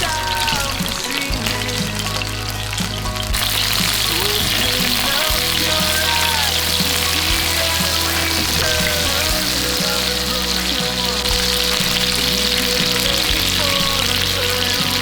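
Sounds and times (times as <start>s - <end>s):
background music: 0.0s - 15.0s
food sizzling in oil: 0.2s - 15.0s.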